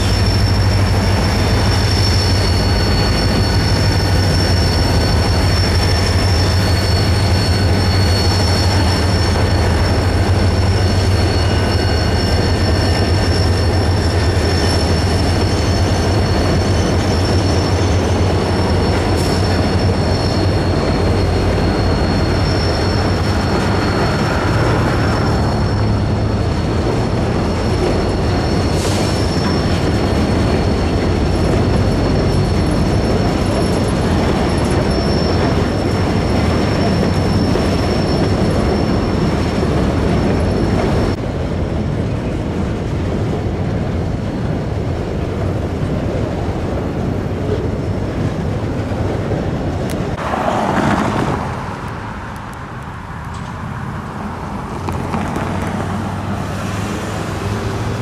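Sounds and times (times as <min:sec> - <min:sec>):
steel wheels squealing: 0:00.0 - 0:41.2, 0:42.1 - 0:58.0
freight train rumble: 0:00.0 - 0:58.0.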